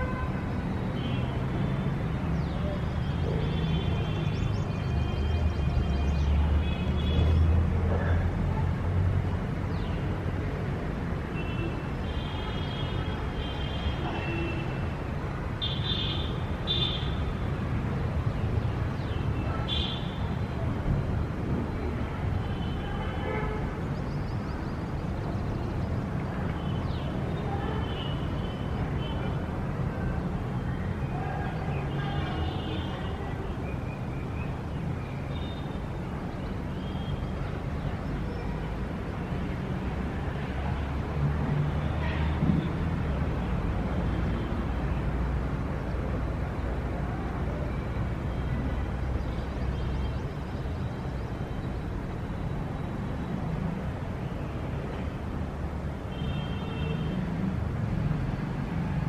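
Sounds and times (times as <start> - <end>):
low traffic rumble: 0.0 - 59.0.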